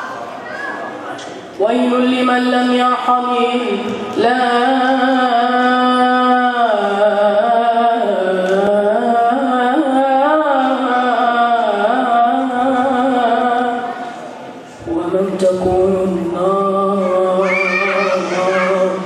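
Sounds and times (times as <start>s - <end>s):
boy singing unaccompanied: 1.6s - 14.2s, 14.8s - 19.0s.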